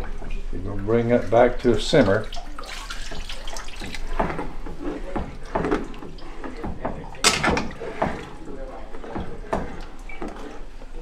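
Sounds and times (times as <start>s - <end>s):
broth sloshing in a pot: 0.0s - 11.0s.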